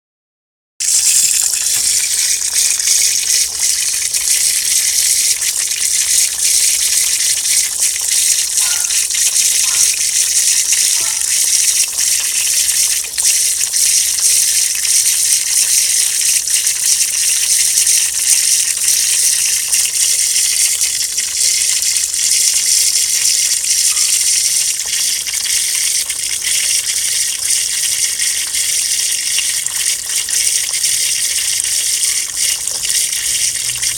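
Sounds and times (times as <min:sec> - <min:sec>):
water pouring: 0:00.8 - 0:33.9.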